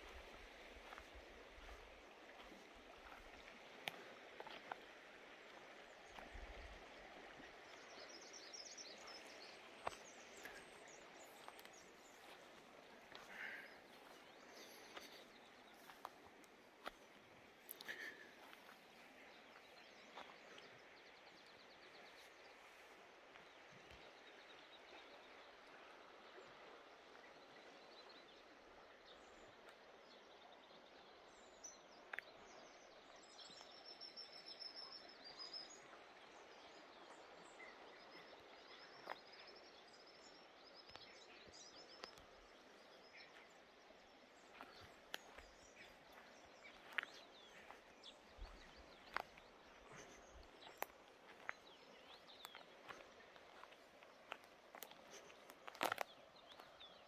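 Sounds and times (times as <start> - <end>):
small birds chirping: 0.0 - 25.9, 32.0 - 57.0.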